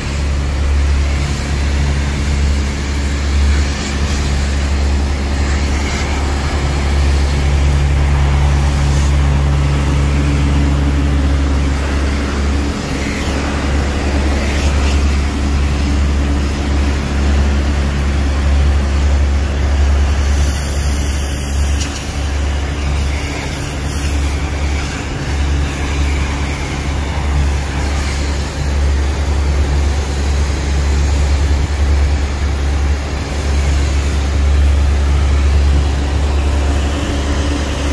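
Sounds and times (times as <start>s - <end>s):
pressure washer spray hissing: 0.0s - 17.6s, 20.0s - 37.9s
low machine drone: 0.0s - 37.9s.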